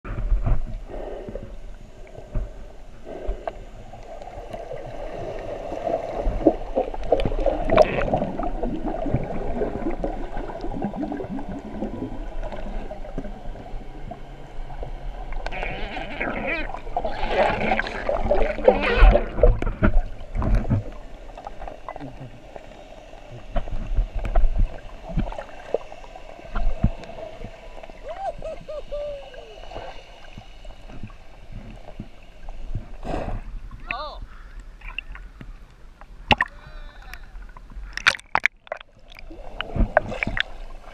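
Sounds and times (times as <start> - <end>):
underwater water churning: 0.1 - 35.4, 37.3 - 40.9
underwater bubbles: 0.1 - 40.9.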